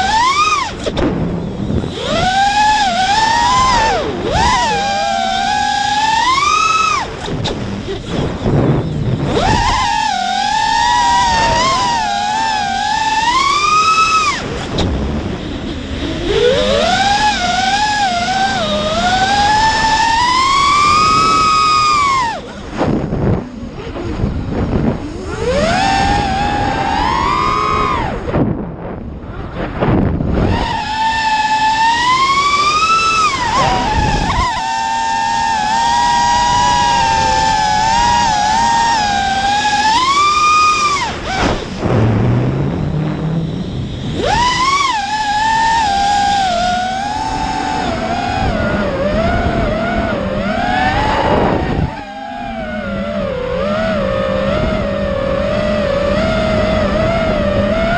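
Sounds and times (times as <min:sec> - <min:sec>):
drone motors whining: 0:00.0 - 0:57.9
wind rush: 0:00.0 - 0:57.9.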